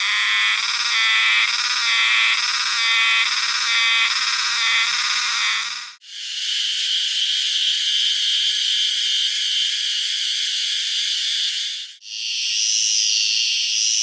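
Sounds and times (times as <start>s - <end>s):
cicadas singing: 0.0s - 13.3s
cicada steady high buzz: 0.0s - 14.0s.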